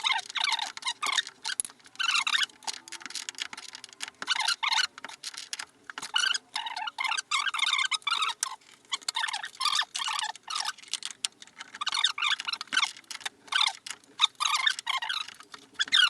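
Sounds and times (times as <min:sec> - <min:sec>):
spanner clicking and scraping: 0:00.0 - 0:16.0.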